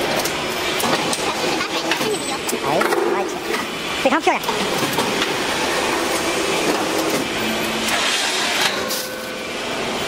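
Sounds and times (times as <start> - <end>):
block making machine running: 0.0 - 10.0.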